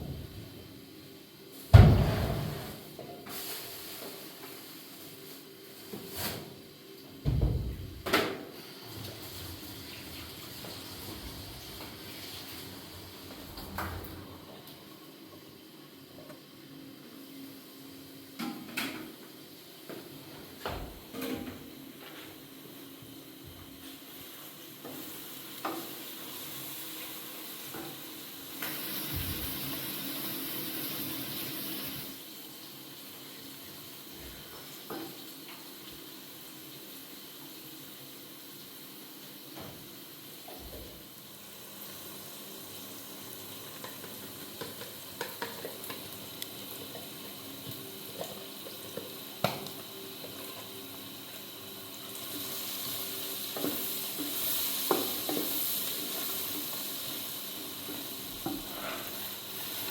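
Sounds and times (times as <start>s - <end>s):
food sizzling in a pan: 0.1s - 20.4s, 21.0s - 59.9s.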